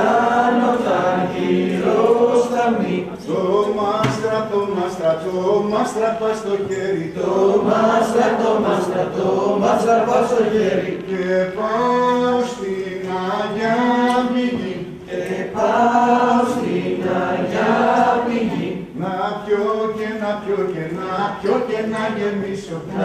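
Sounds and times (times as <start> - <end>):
group singing folk tune: 0.0 - 23.0.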